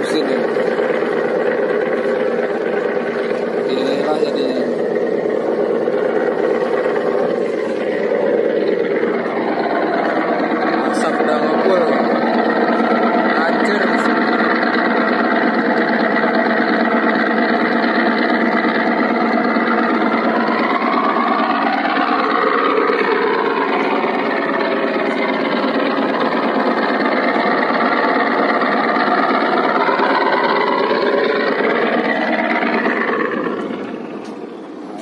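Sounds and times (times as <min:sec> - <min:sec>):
ship diesel engine running: 0:00.0 - 0:35.0.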